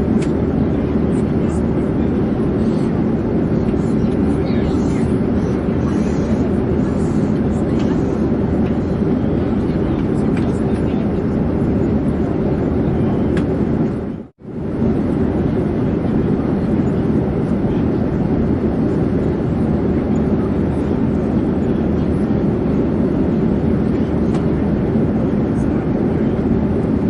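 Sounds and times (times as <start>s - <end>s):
airplane drone in flight: 0.0s - 27.0s.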